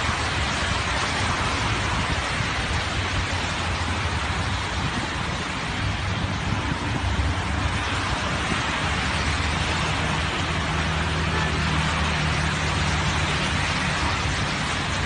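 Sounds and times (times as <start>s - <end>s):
rain hiss: 0.0s - 15.0s
traffic on wet highway: 0.0s - 15.0s.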